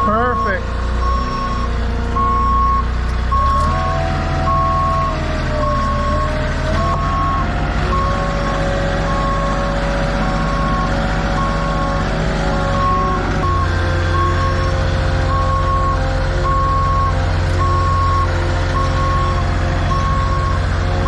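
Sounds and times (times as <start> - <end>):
diesel engine rumble: 0.0 - 21.0
reversing alarm beeping: 0.0 - 21.0.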